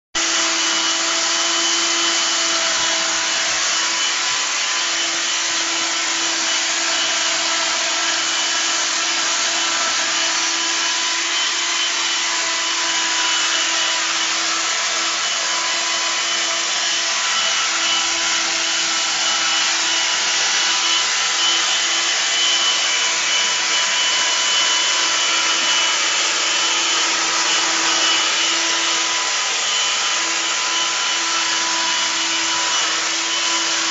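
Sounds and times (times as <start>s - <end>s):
handheld vacuum cleaner running: 0.1s - 33.9s.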